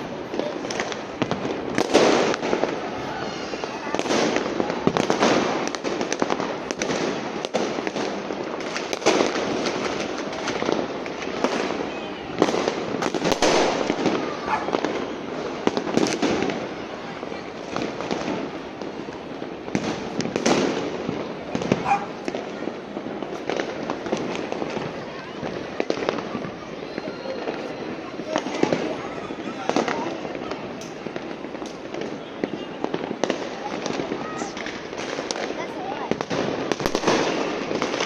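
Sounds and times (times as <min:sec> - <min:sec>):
fireworks crackling and popping: 0:00.0 - 0:38.0
loud firework blasts: 0:00.0 - 0:38.0.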